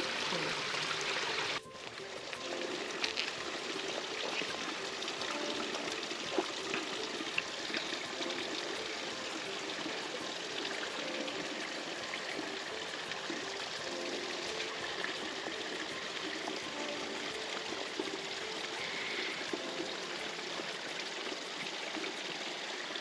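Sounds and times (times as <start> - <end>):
slurping water through valve: 0.0 - 23.0
steady hiss: 0.0 - 23.0.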